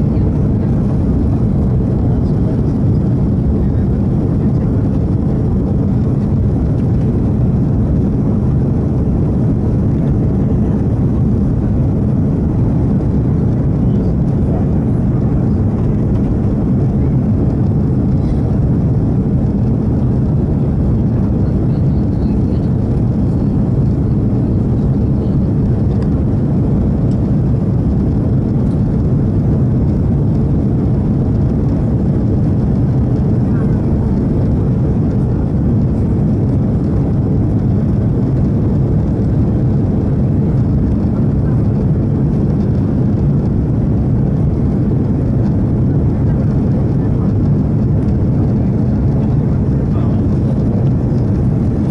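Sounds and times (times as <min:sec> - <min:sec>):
deep rumble of jet engines: 0:00.0 - 0:51.9
rushing air: 0:00.0 - 0:51.9.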